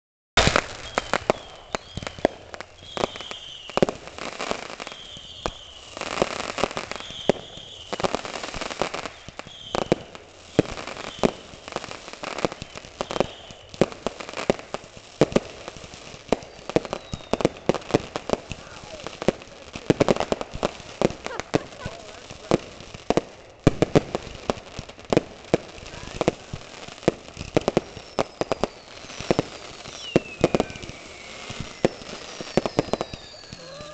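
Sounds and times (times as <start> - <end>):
falling firework whistles: 0.4 - 14.6, 15.3 - 22.6, 25.8 - 33.9
firework bangs and crackles: 0.4 - 33.9.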